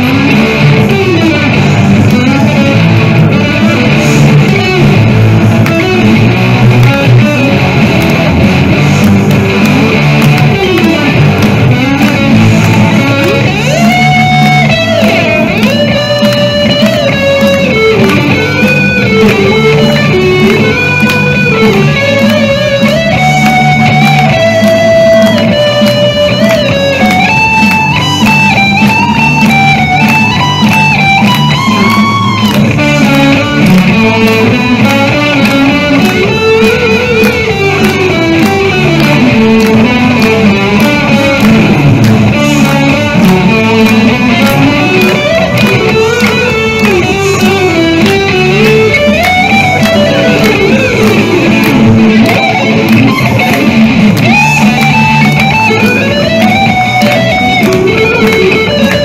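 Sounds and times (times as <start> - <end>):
electric guitar rock instrumental: 0.0 - 59.0.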